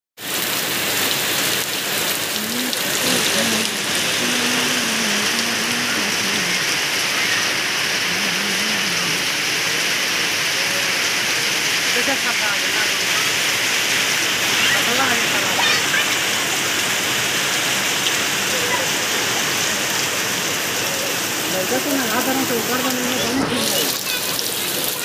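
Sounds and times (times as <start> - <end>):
heavy rain on pavement: 0.2 - 25.0.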